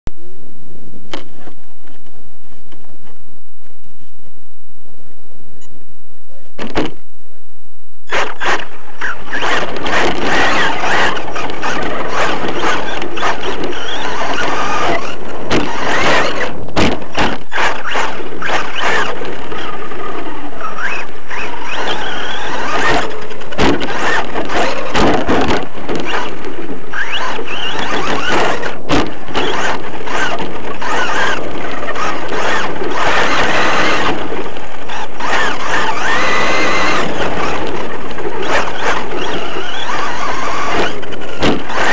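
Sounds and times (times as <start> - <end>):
toy car drivetrain whining: 8.1 - 41.9.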